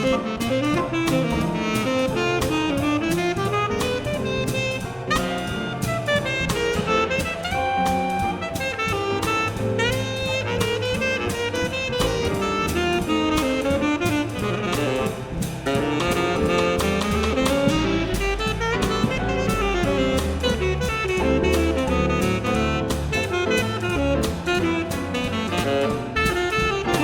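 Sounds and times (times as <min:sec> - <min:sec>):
drum kit with cymbals: 0:00.0 - 0:27.0
piano: 0:00.0 - 0:27.0
saxophone: 0:00.0 - 0:27.0
walking bass: 0:00.0 - 0:27.0.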